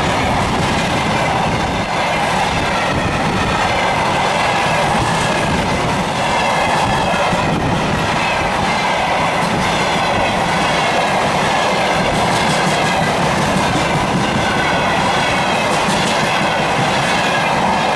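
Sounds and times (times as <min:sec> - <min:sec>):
freight train wheels clattering: 0:00.0 - 0:17.9.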